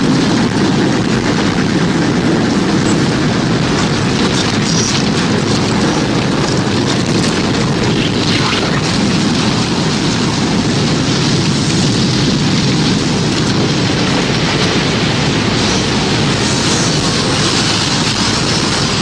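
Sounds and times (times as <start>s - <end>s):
loud wind rumble: 0.0s - 19.0s.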